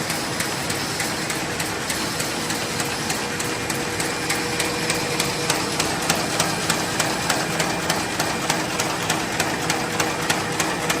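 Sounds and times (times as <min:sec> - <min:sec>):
machine whirring: 0:00.0 - 0:11.0
sharp rhythmic machine clicks: 0:00.0 - 0:11.0.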